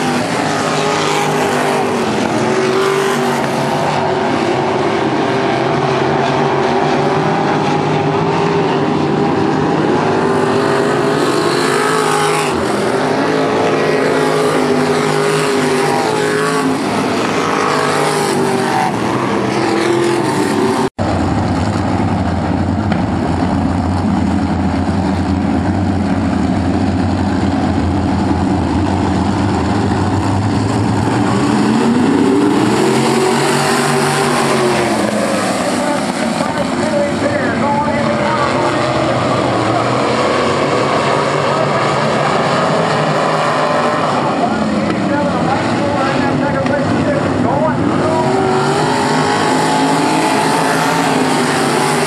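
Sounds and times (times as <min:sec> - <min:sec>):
engine revving: 0:00.0 - 0:52.0
race car engines: 0:00.0 - 0:52.0.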